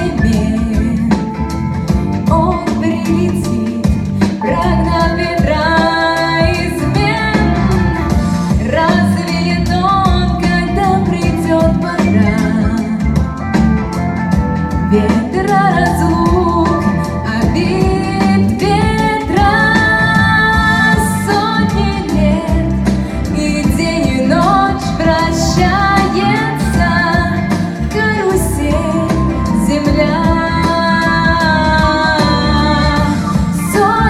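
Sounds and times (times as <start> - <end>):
woman singing with band: 0.0 - 1.6, 2.2 - 13.6, 14.8 - 34.0.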